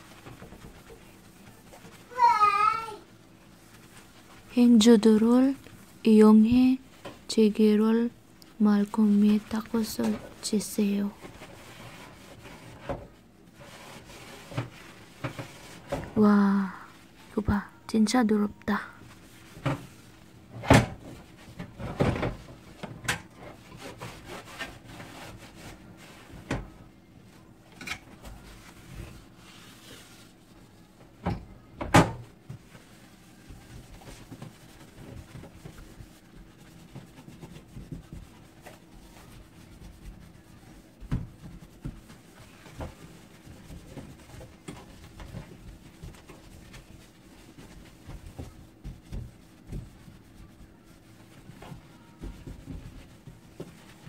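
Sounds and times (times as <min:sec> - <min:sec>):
paper towel wiping metal cooktop: 0:00.0 - 0:04.8, 0:08.6 - 0:17.4, 0:18.9 - 0:31.2, 0:32.2 - 0:54.0.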